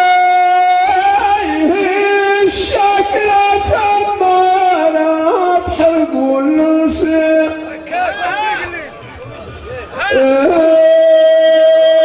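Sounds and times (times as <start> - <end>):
man chanting into microphone: 0.0 - 7.9, 10.0 - 12.0.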